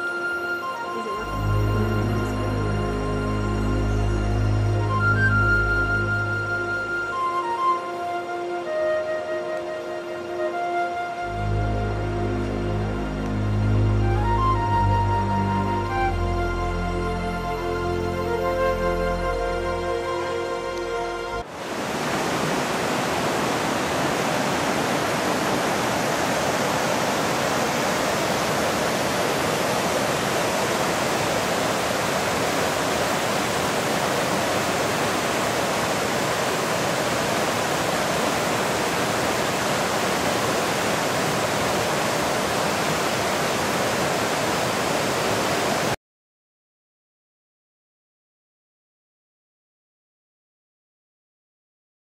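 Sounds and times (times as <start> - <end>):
waterfall rushing water: 0.0 - 46.0.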